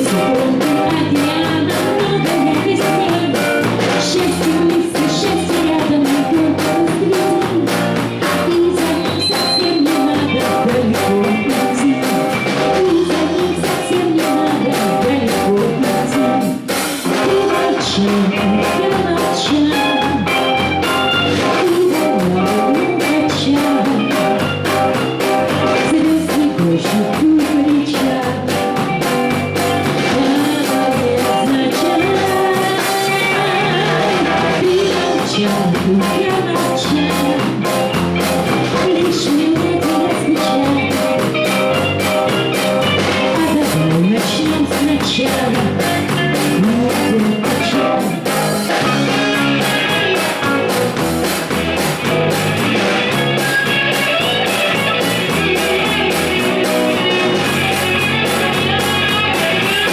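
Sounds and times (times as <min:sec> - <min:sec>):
lead guitar line bending: 0:00.0 - 0:59.9
live rock band playing: 0:00.0 - 0:59.9.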